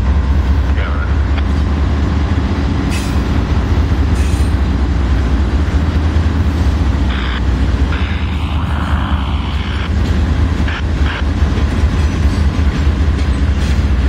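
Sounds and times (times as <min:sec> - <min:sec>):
diesel engine rumble: 0:00.0 - 0:14.0
steel wheels rolling on rails: 0:00.0 - 0:14.0.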